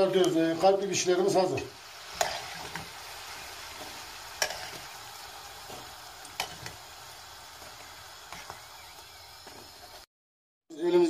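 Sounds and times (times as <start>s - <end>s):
oil sizzling in a frying pan: 0.0s - 10.1s.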